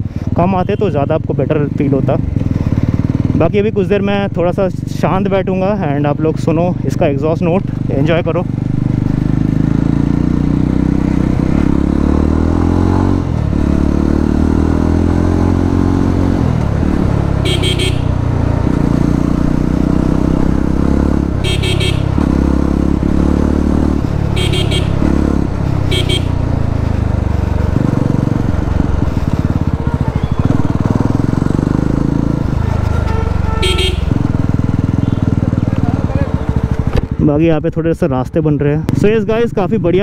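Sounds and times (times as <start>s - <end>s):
motorcycle engine revving: 0.0s - 37.4s.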